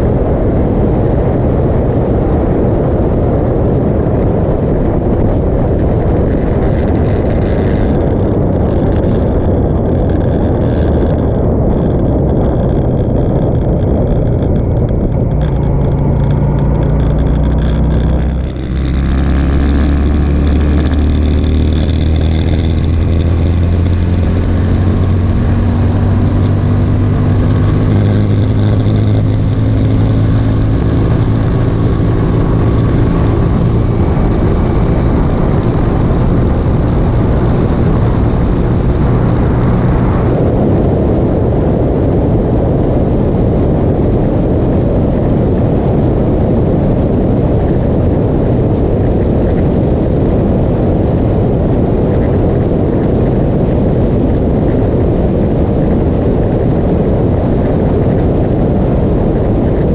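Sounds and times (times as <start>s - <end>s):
motorcycle engine hum: 0.0s - 59.9s
wind rush over microphone: 0.0s - 59.9s.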